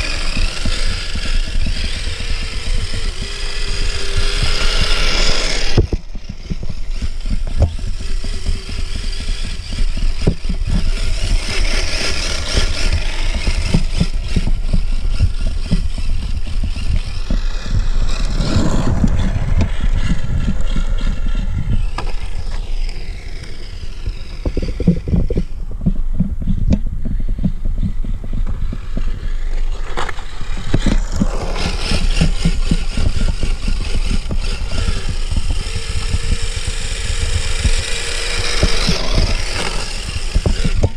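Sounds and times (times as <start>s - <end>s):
low rumble and rushing noise: 0.0s - 40.9s
small electric motors whining: 0.0s - 40.9s.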